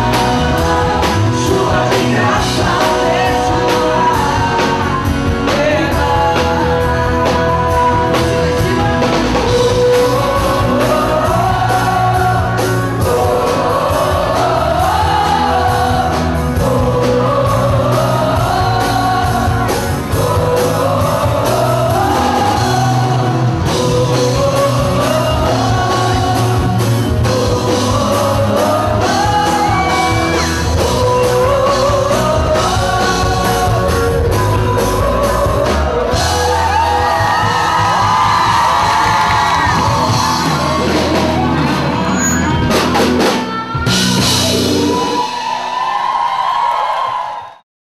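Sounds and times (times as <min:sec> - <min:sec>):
live band playing: 0:00.0 - 0:46.8.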